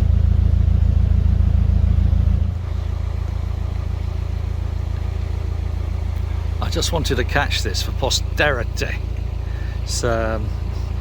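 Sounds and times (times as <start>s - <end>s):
boat diesel engine throbbing: 0.0s - 11.0s.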